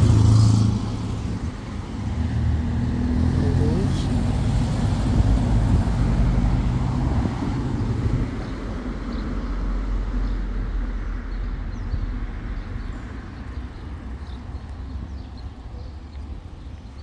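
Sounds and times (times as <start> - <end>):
cars driving past: 0.0 - 15.4.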